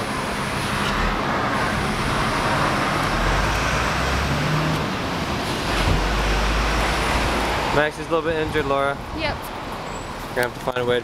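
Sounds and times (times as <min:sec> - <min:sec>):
car engine rumbling: 0:00.0 - 0:10.6.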